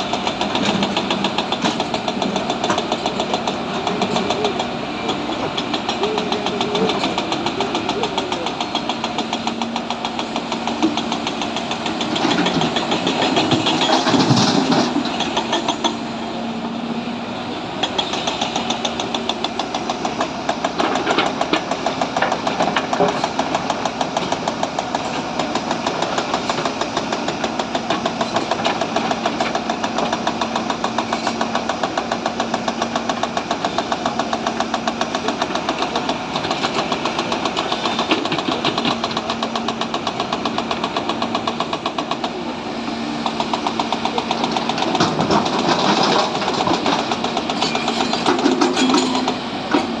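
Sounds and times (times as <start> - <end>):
excavator diesel engine knocking: 0.0 - 50.0.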